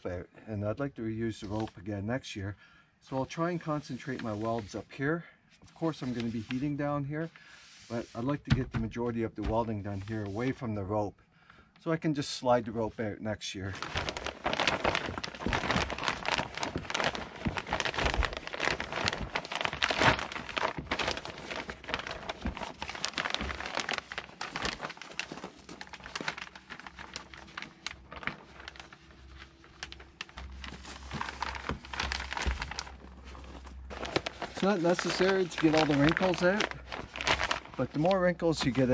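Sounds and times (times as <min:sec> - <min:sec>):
plastic sheeting crinkling: 0:01.3 - 0:01.9, 0:03.1 - 0:05.0, 0:05.7 - 0:08.4, 0:09.3 - 0:10.6, 0:13.6 - 0:38.9.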